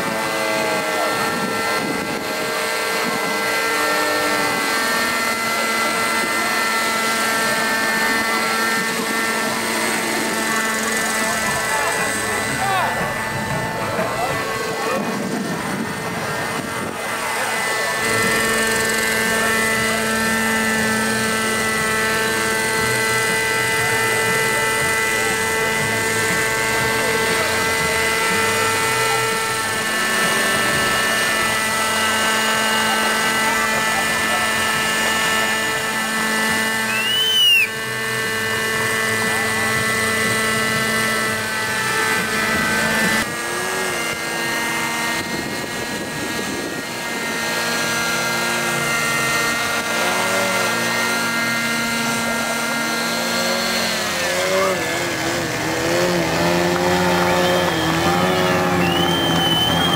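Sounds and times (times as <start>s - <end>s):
model helicopter engine and rotors: 0.0s - 59.9s.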